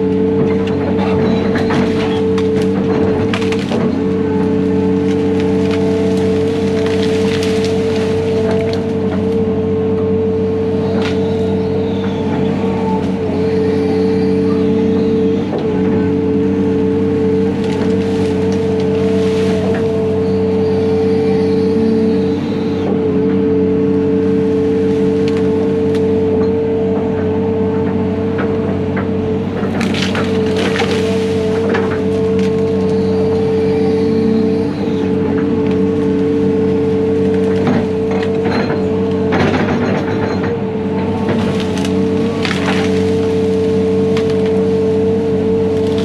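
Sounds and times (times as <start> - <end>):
heavy diesel equipment running: 0.0 - 46.0.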